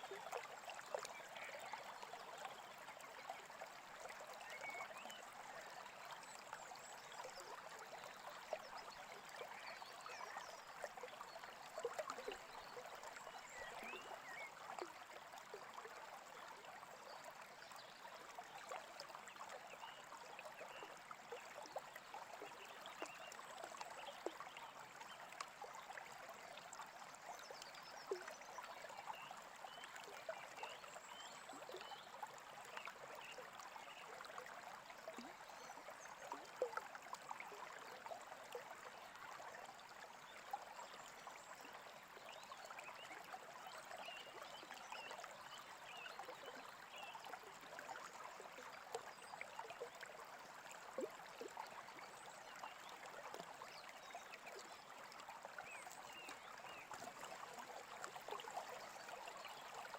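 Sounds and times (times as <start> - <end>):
small stream babbling: 0.0 - 59.9.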